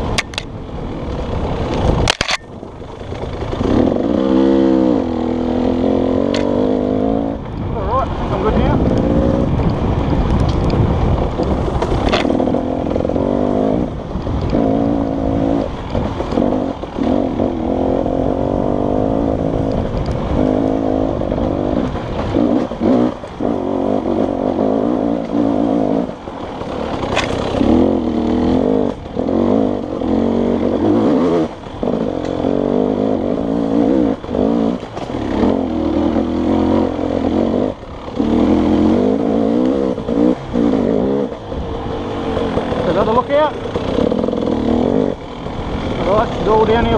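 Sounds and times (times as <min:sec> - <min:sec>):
dirt bike engine revving: 0:02.8 - 0:10.2, 0:10.8 - 0:46.9.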